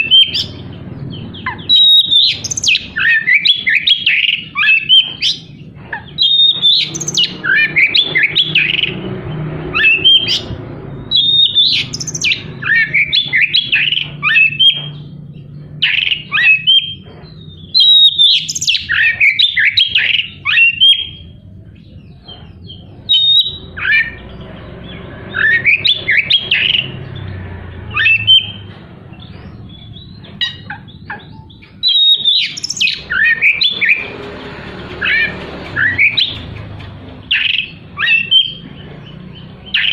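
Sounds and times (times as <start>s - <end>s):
songbird singing harsh phrases: 0.0s - 39.9s.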